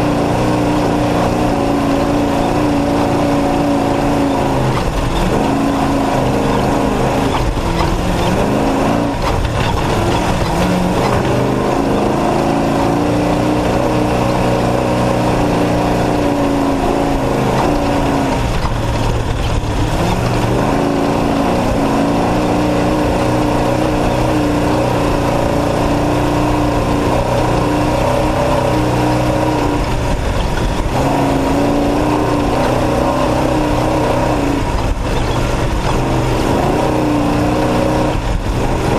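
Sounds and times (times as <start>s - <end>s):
truck engine revving hard: 0.0s - 38.9s.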